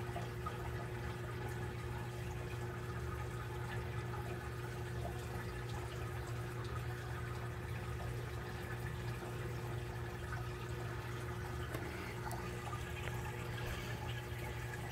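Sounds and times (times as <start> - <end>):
aquarium filter humming: 0.0 - 14.9
water trickling and bubbling: 0.0 - 14.9.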